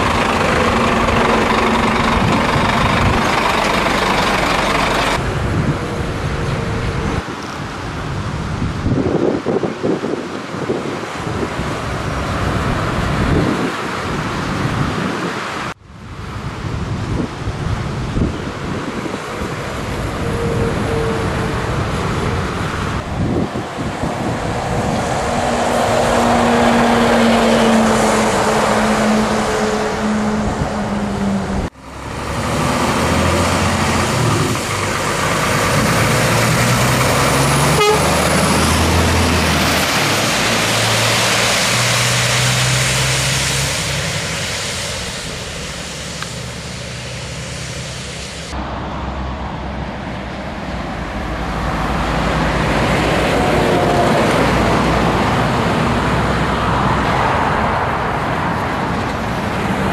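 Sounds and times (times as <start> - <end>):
truck engines running: 0.0 - 8.8, 11.3 - 59.9
tyre and road noise: 0.0 - 59.9.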